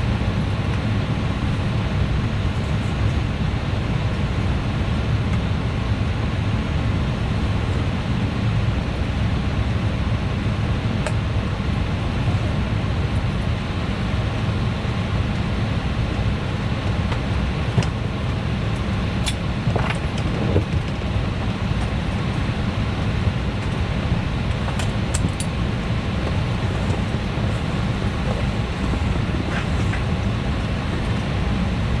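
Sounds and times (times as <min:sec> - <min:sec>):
airliner cabin drone: 0:00.0 - 0:32.0.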